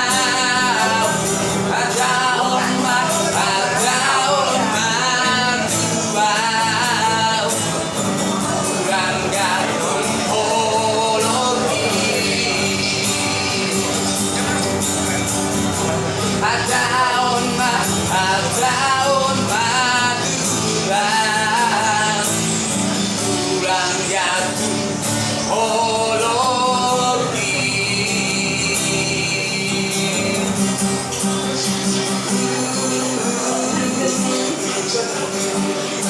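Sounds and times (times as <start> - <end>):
man singing: 0.0 - 36.0.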